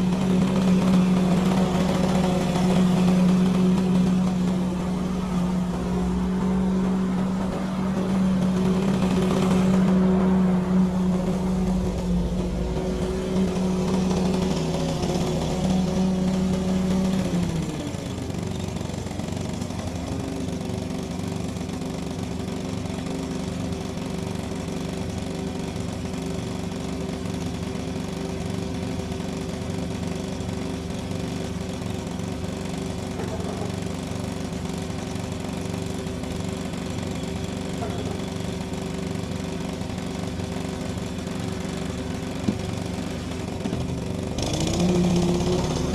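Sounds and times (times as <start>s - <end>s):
lawn mower engine running: 0.0s - 45.9s.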